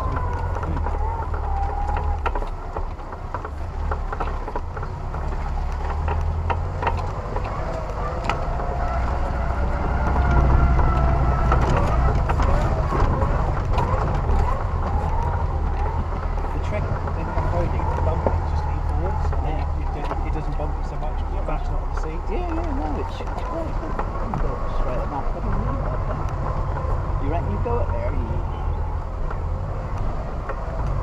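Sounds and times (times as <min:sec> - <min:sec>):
engine rumble: 0:00.0 - 0:31.0
vehicle knocks and rattles: 0:00.0 - 0:31.0.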